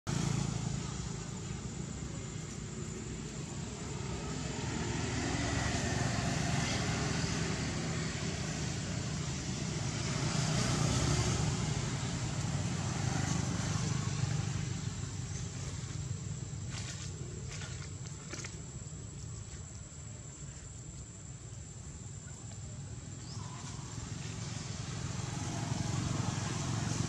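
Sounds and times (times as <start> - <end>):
distant road traffic rumble: 0.0 - 27.0.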